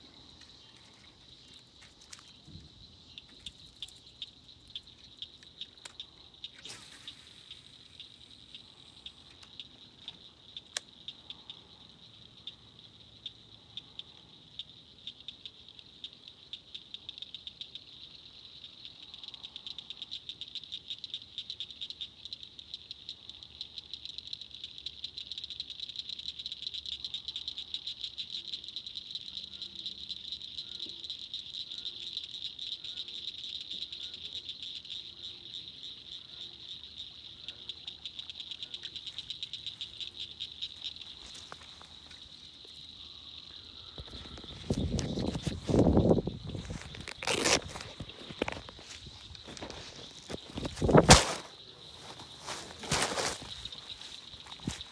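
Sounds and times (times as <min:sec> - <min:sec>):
high-pitched insect chorus pulsing: 0:00.0 - 0:54.9.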